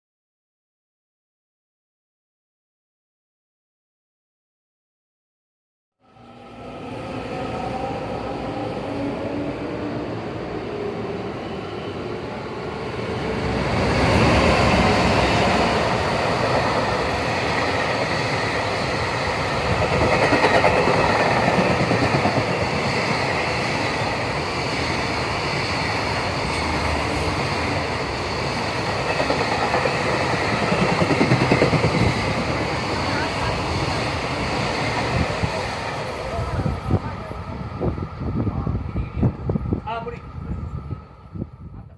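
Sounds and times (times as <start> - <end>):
freight train passing: 6.0 - 41.9.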